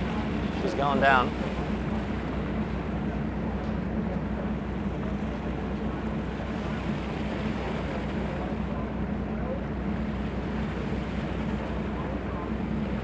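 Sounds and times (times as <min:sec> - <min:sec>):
sea wash: 0:00.0 - 0:13.0
ship engine hum: 0:00.0 - 0:13.0.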